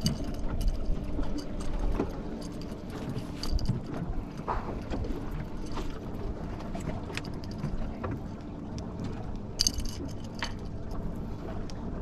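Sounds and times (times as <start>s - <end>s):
boat motor humming: 0.0s - 12.0s
clicks and knocks on boat: 0.0s - 12.0s
water: 0.0s - 12.0s.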